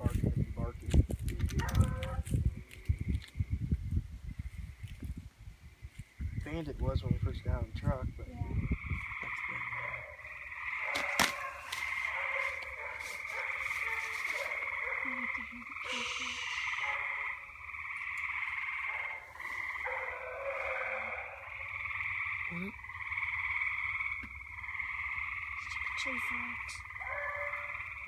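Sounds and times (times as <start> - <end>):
frogs calling: 1.6 - 28.0.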